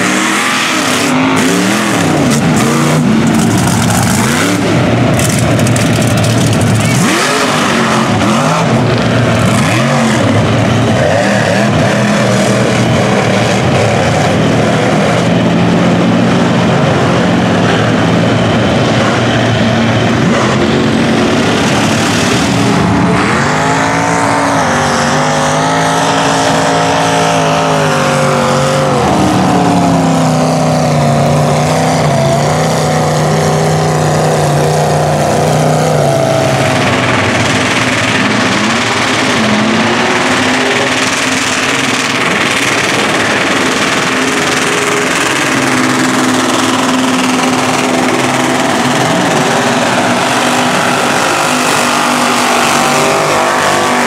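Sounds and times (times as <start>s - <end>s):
engine revving high: 0.0s - 54.0s
truck engines running hard: 0.0s - 54.0s.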